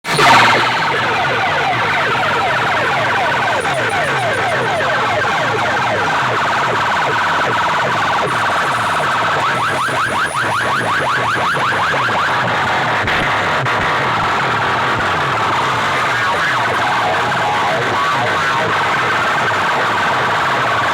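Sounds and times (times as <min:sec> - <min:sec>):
electronic siren sweeps: 0:00.0 - 0:12.5, 0:15.8 - 0:20.2.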